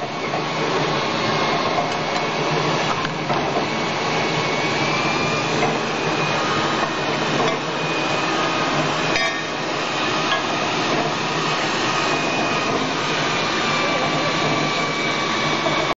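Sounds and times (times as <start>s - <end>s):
bottling machine clatter and hiss: 0.0s - 15.9s.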